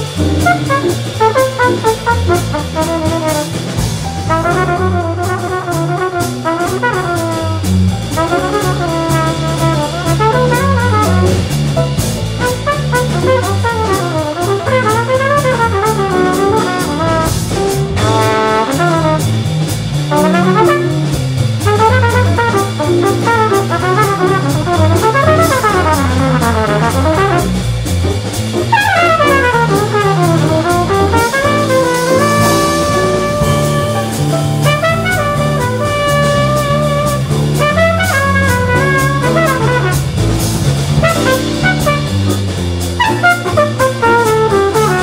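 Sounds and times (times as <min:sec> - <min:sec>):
trumpet solo: 0:00.0 - 0:11.6, 0:12.4 - 0:27.7, 0:28.7 - 0:45.0
drums: 0:00.0 - 0:45.0
electric bass: 0:00.0 - 0:45.0
piano: 0:00.0 - 0:45.0.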